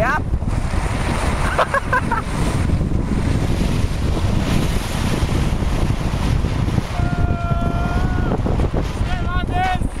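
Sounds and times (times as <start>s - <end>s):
deep rumble: 0.0s - 10.0s
wind buffeting microphone: 0.0s - 10.0s.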